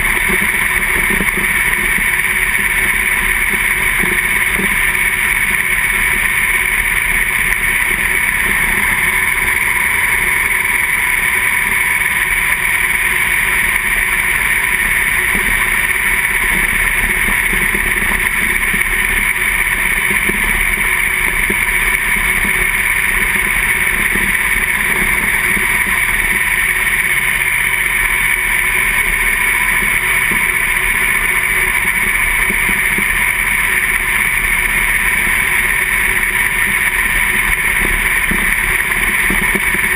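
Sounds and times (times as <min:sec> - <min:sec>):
racing car engine drone: 0:00.0 - 0:39.9.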